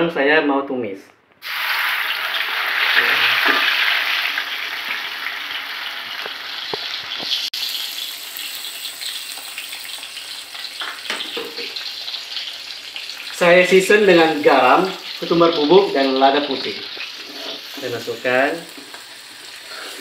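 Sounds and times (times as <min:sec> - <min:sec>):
spice paste sizzling in oil: 0:01.4 - 0:20.0.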